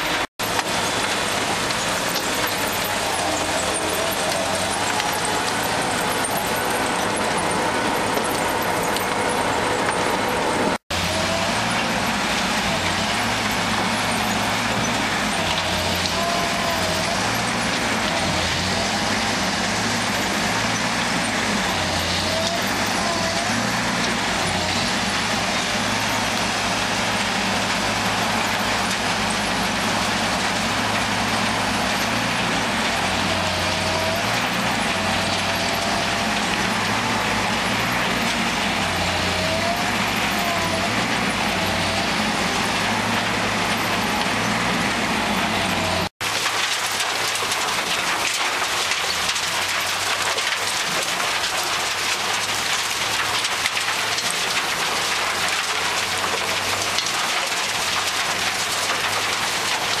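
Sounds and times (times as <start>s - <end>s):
heavy diesel machinery running: 0.0s - 60.0s
shredded waste tumbling in drum: 0.0s - 60.0s.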